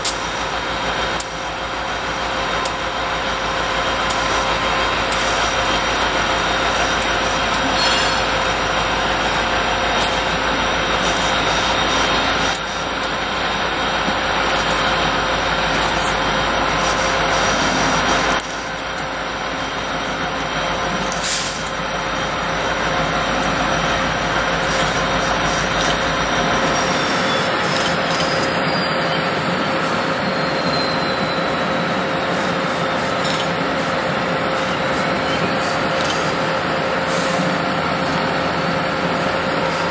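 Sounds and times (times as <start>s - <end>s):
diesel locomotive engines humming: 0.0s - 39.9s
wheel and rail noise: 0.0s - 39.9s.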